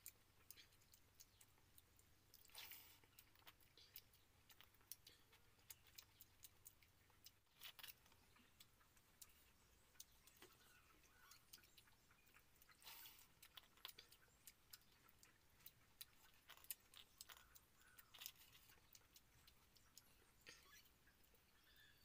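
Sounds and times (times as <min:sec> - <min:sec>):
chewing clicks and smacks: 0:00.0 - 0:21.9.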